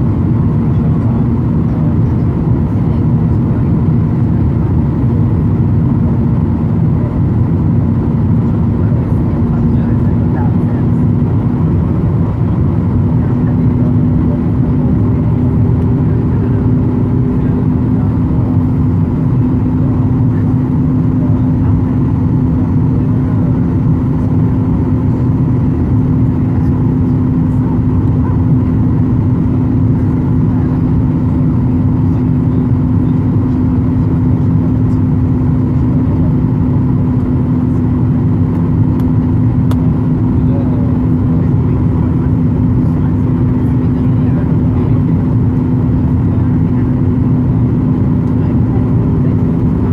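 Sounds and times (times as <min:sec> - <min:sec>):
constant hum: 0:00.0 - 0:49.9
jet cabin engine rumble: 0:00.0 - 0:49.9.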